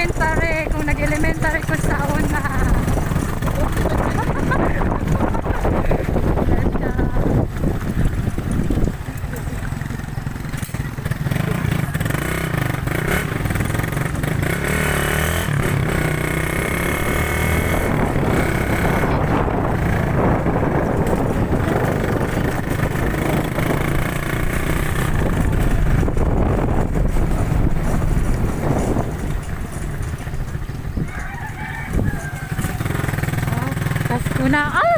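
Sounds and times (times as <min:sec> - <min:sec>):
motorcycle engine drone: 0:00.0 - 0:34.9
wind and road noise: 0:00.0 - 0:34.9.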